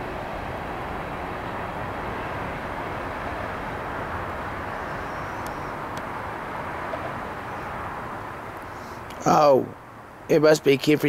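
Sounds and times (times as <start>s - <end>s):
freight cars rolling on rails: 0.0s - 9.7s.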